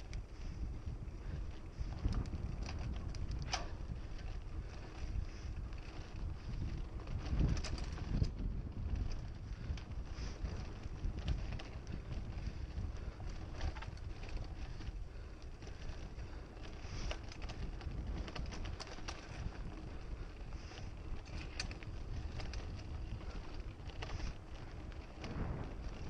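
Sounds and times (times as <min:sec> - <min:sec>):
bike clicking and rattling: 0:00.0 - 0:26.0
wind buffeting microphone: 0:00.0 - 0:26.0.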